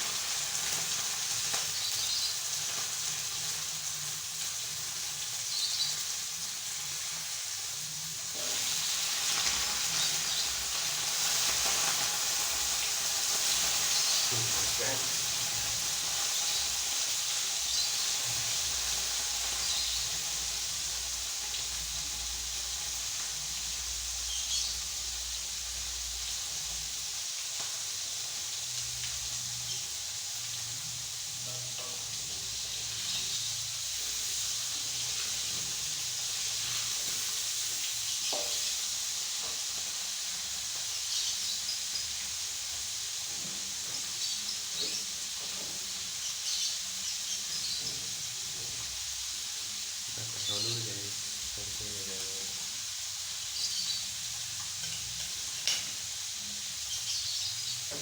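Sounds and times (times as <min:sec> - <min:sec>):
fish frying in hot oil: 0:00.0 - 0:58.0.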